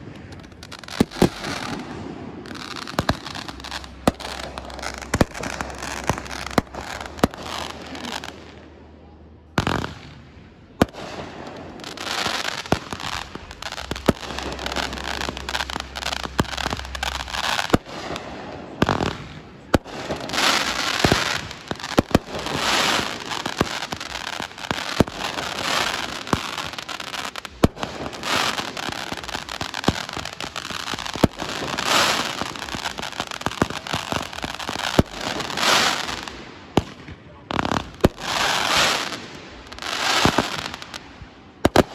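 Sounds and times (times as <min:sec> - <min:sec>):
firework bangs: 0:00.0 - 0:41.9
firework crackling: 0:00.0 - 0:41.9.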